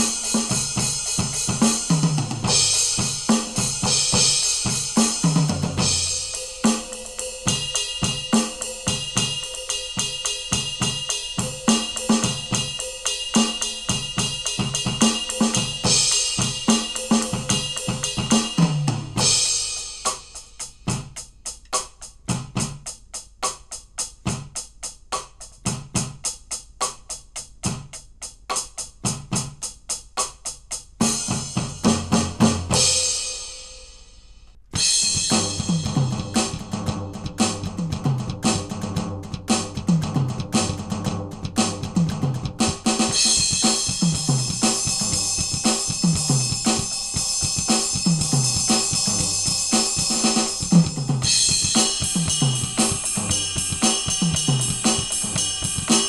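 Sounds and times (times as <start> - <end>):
electronic drum kit funk groove: 0.0 - 33.5, 34.7 - 56.0.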